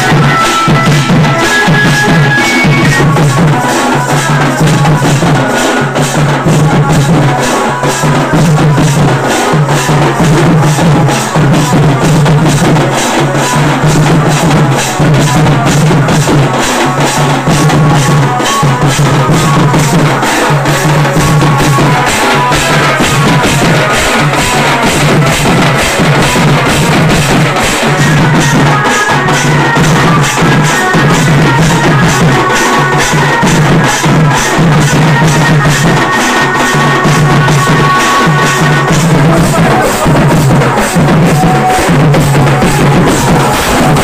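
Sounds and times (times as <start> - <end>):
high held melodic line: 0.0 - 6.0, 12.7 - 44.0
drums beaten in fast rhythm: 0.0 - 44.0.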